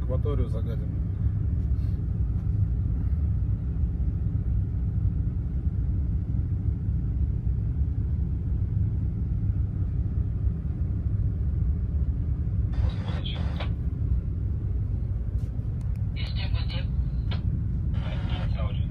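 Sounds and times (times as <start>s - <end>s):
ship low rumble: 0.0s - 18.9s.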